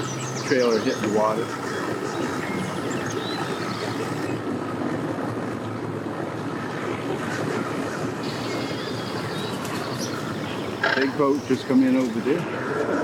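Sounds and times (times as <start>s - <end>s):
boat and vehicle engines rumbling: 0.0s - 13.0s.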